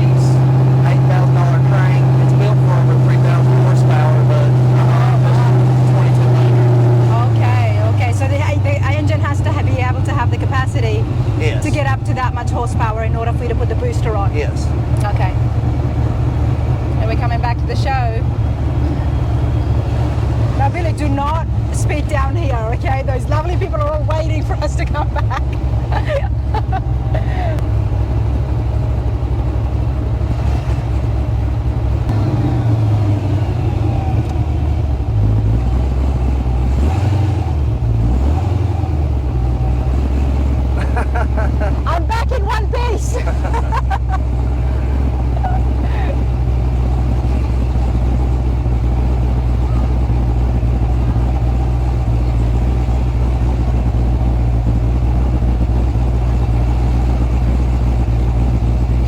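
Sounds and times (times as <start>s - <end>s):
engine droning from inside cab: 0.0s - 59.0s.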